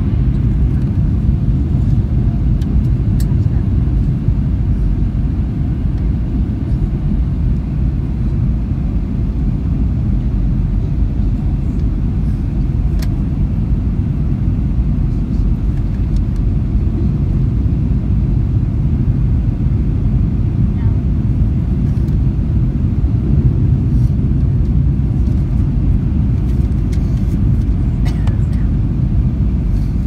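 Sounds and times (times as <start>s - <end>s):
airliner cabin engine rumble: 0.0s - 30.0s.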